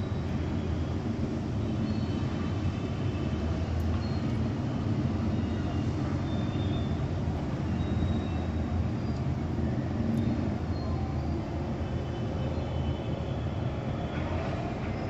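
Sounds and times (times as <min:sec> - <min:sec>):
distant city traffic rumble: 0:00.0 - 0:15.0.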